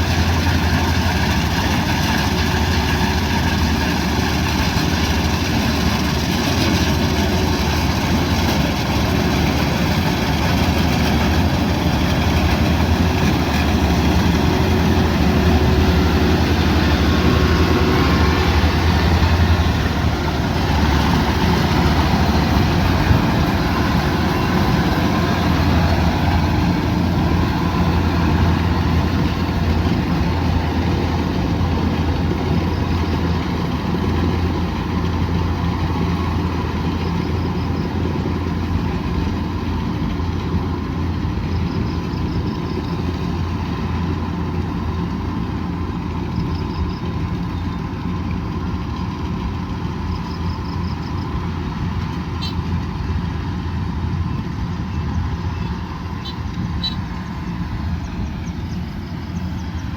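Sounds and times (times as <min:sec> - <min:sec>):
combine harvester engine running: 0:00.0 - 0:59.9
machinery noise: 0:00.0 - 0:59.9.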